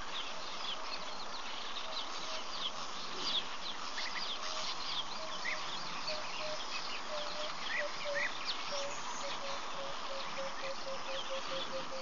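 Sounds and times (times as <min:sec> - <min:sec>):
background hiss: 0:00.0 - 0:12.0
birds chirping: 0:00.0 - 0:12.0.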